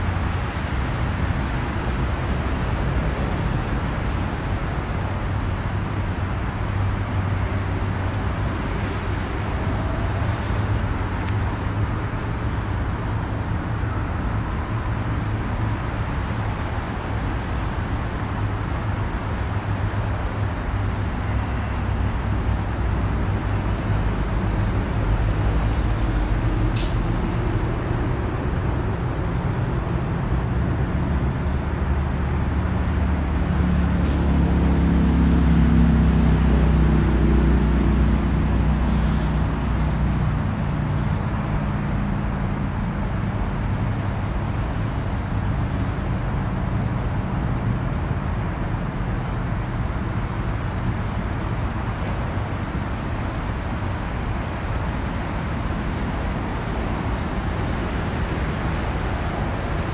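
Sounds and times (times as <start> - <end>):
heavy vehicle engine: 0.0 - 59.9
traffic rumble: 0.0 - 59.9.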